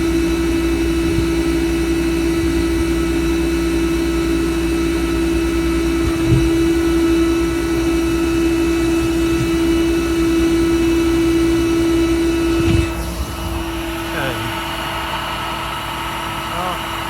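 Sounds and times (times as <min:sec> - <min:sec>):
hydraulic mechanical whine: 0:00.0 - 0:17.0
truck engine hum: 0:00.0 - 0:17.0.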